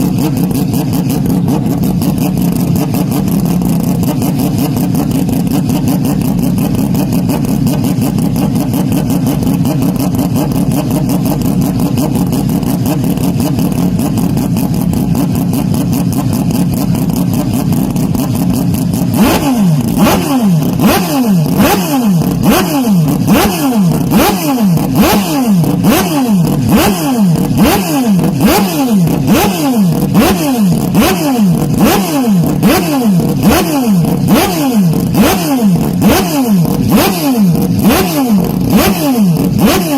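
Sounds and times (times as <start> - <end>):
car engine revving: 0.0 - 39.9
exhaust cracks: 0.0 - 39.9.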